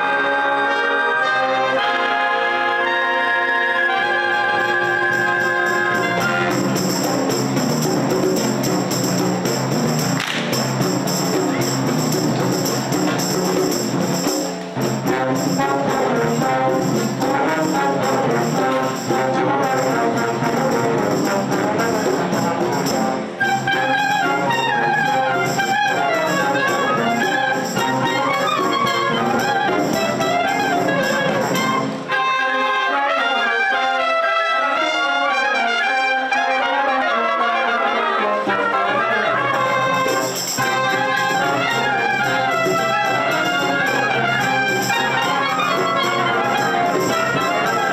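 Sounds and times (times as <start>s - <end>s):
wind band playing: 0.0s - 47.9s.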